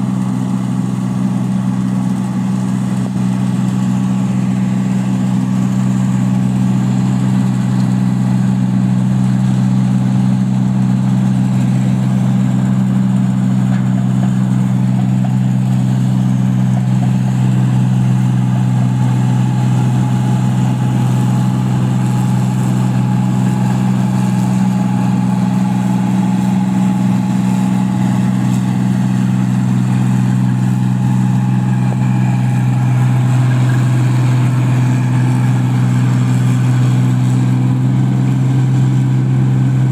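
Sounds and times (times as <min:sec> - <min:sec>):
machine engine running loudly: 0:00.0 - 0:39.9.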